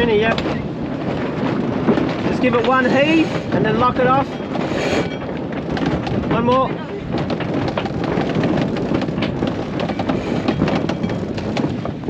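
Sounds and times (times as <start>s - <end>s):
wind and water rushing: 0.0s - 12.0s.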